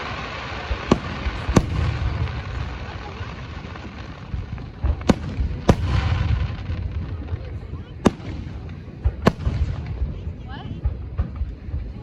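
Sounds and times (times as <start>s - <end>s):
firework bangs: 0.0s - 12.0s
low rumble of firework bursts: 0.0s - 12.0s.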